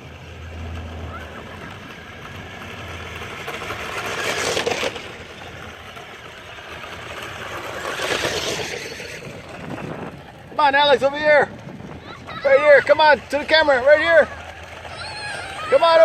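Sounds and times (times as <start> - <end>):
toy trucks electric motors: 0.0 - 10.5, 12.0 - 16.0.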